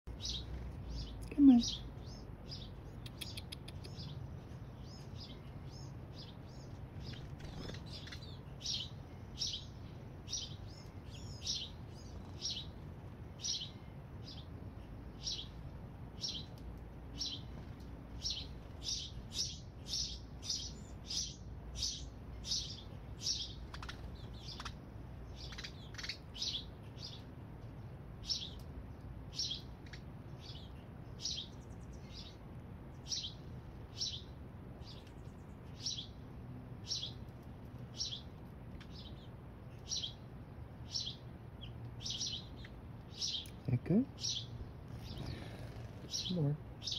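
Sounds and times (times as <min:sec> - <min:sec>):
baby hummingbird chirping: 0:00.1 - 0:27.3, 0:29.3 - 0:36.2, 0:37.9 - 0:46.9.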